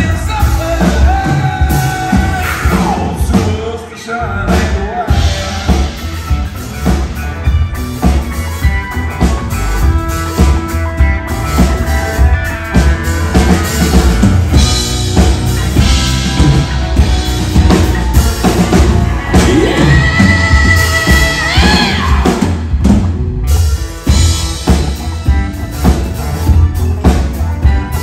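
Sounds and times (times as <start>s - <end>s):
drum kit beat: 0.0s - 3.7s, 4.5s - 28.0s
electric guitars: 0.0s - 28.0s
keyboards: 0.0s - 28.0s.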